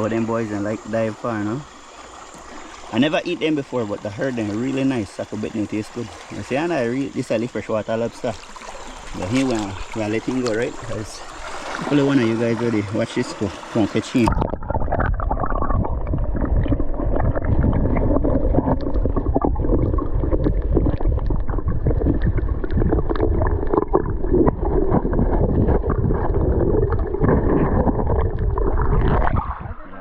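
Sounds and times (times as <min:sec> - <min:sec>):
water noise: 0:00.0 - 0:30.0.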